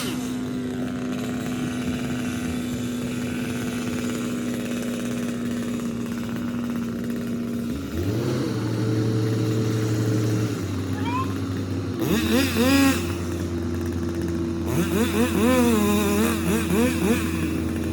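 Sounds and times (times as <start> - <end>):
engine running: 0.0 - 17.9.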